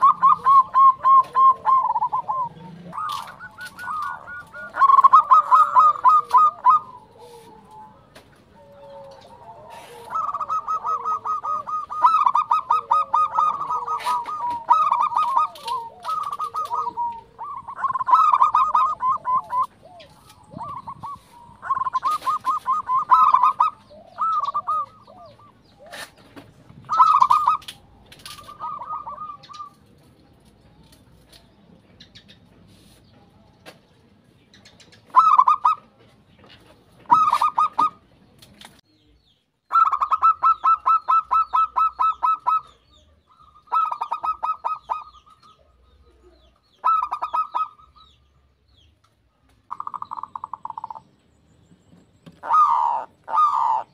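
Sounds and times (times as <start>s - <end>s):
dove cooing: 0.0s - 30.1s, 34.7s - 36.0s, 37.0s - 38.0s, 39.7s - 48.2s, 49.7s - 51.2s, 52.2s - 53.9s.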